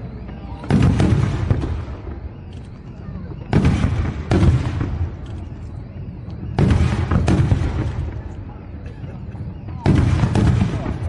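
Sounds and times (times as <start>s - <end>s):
fireworks bangs: 0.0s - 11.0s
steady background din: 0.0s - 11.0s.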